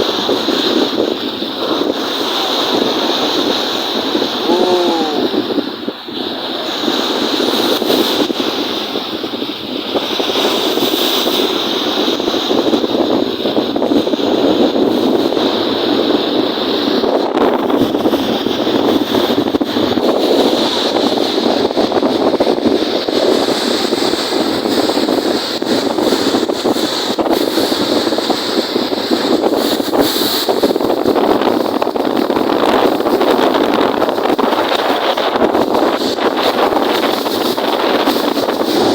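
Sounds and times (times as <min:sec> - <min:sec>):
choppy lake waves: 0:00.0 - 0:38.9
wind buffeting microphone: 0:00.0 - 0:38.9.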